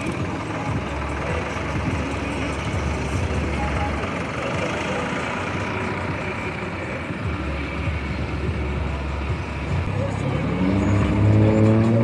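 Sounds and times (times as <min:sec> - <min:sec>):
cars driving past: 0:00.0 - 0:12.0
tractor engine rumble: 0:00.0 - 0:12.0.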